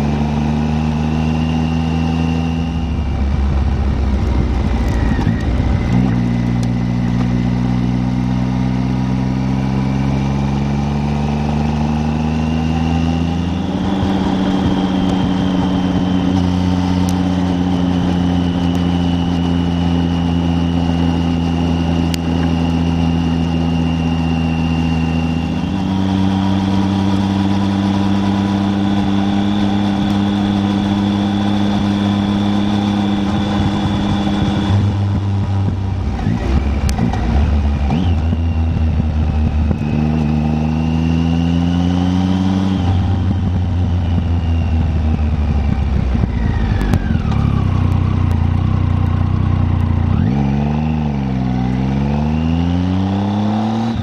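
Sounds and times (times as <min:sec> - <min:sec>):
motorcycle engine under way: 0:00.0 - 0:54.0.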